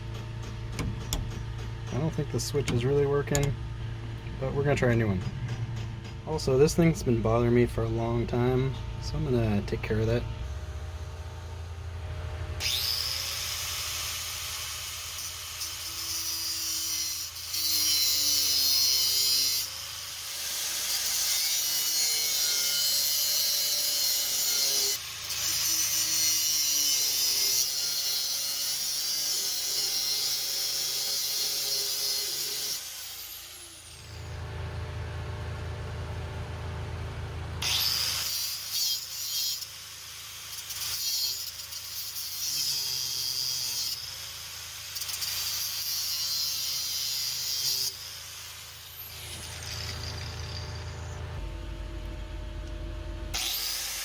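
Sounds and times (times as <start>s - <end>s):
power tool grinding: 0.0s - 34.5s, 37.6s - 54.0s.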